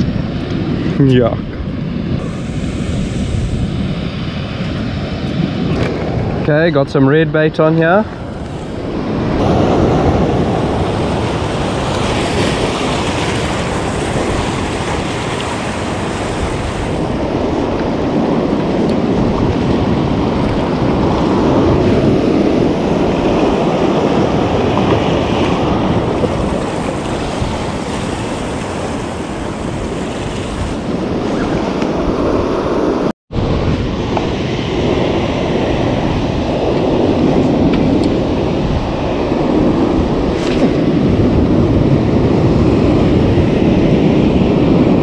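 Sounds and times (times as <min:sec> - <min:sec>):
surf washing over rocks: 0:00.0 - 0:45.0
wind buffeting microphone: 0:00.0 - 0:45.0.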